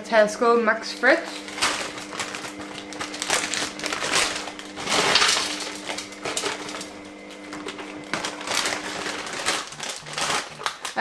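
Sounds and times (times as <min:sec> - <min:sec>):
plastic bag crinkling: 0:01.0 - 0:11.0
frozen fruit tumbling into jug: 0:01.3 - 0:11.0.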